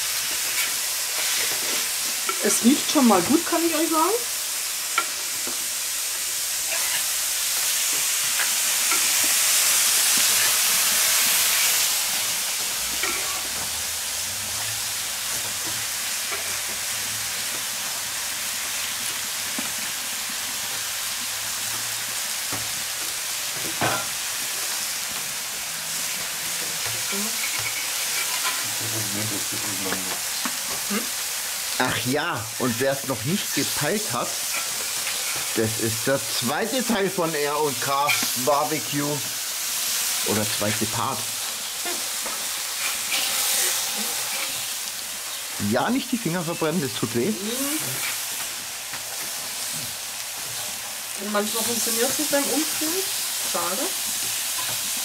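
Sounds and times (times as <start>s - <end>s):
fruit sizzling on a griddle: 0.0s - 55.0s.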